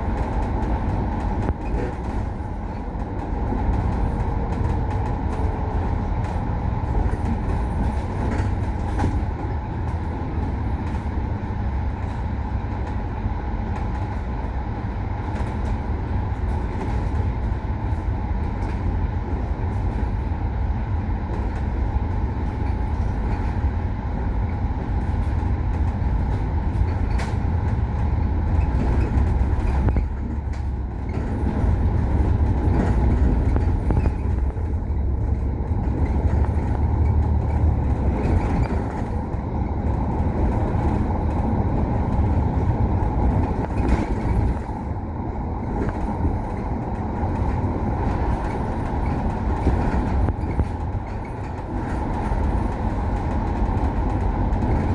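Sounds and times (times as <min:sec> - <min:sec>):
bus engine rumbling: 0:00.0 - 0:54.9
constant whine: 0:00.0 - 0:54.9.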